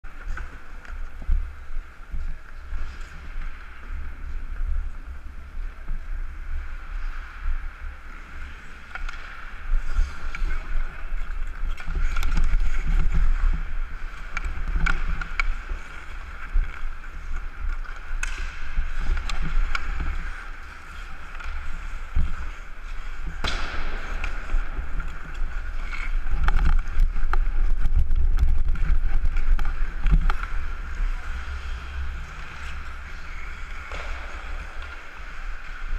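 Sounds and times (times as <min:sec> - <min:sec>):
wind rumble on microphone: 0:00.0 - 0:35.9
hockey sticks and puck clacks: 0:00.1 - 0:35.9
skates scraping on ice: 0:00.1 - 0:35.9.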